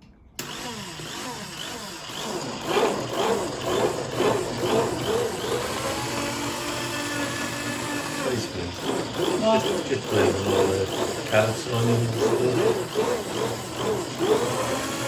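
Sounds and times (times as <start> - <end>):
stick blender motor running: 0.4 - 15.0.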